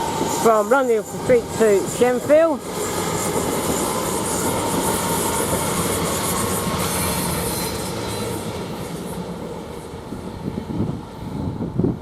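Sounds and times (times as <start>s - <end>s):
electric train pulling out: 0.0s - 12.0s.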